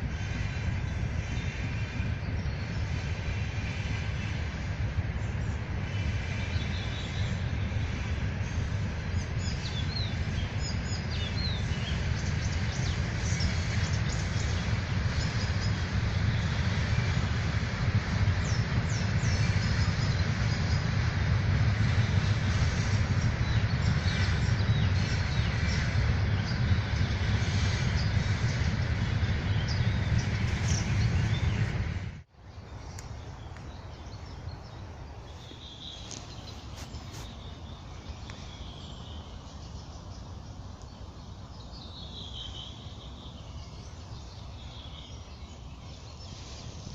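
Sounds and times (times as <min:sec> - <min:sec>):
steady low rumble: 0:00.0 - 0:46.9
songbirds chirping and singing: 0:05.3 - 0:46.9.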